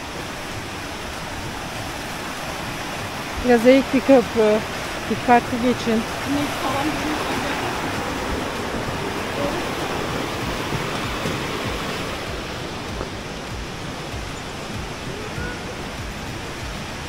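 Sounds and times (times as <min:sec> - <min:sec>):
stream cascading over waterfalls: 0:00.0 - 0:17.0.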